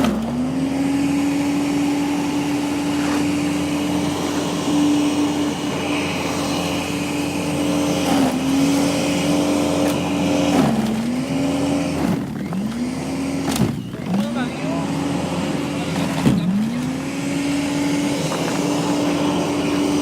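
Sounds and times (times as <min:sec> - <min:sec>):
engine running at high pitch: 0:00.0 - 0:20.0.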